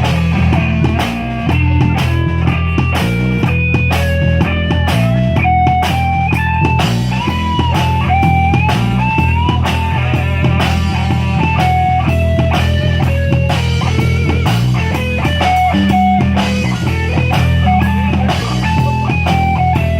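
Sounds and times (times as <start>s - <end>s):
band lead melody: 0.0s - 19.9s
bass line: 0.0s - 19.9s
drums: 0.0s - 19.9s.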